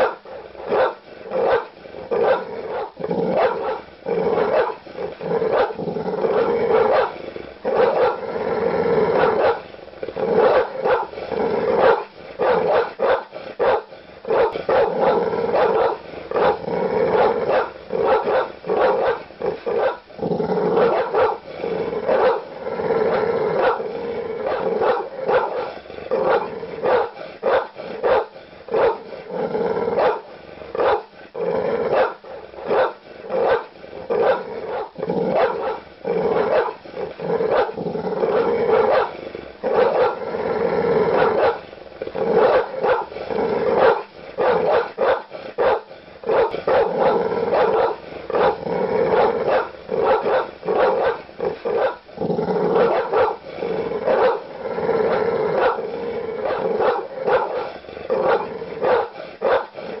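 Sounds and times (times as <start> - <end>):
large dog barking aggressively: 0.0 - 60.0.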